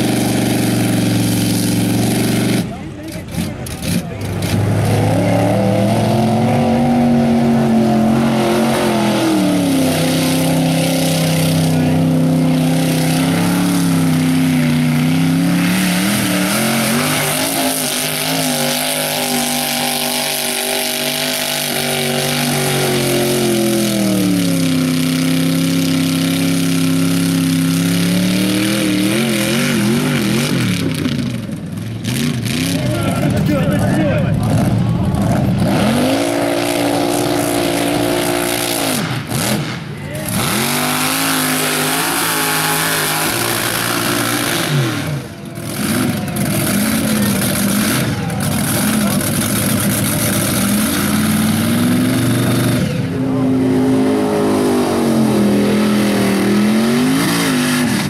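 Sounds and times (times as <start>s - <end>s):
truck engine revving hard: 0.0s - 58.0s.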